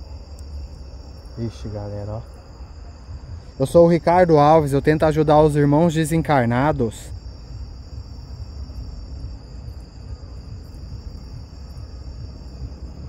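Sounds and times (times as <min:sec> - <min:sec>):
crickets trilling: 0:00.0 - 0:13.0
low choppy rumble: 0:00.0 - 0:13.0.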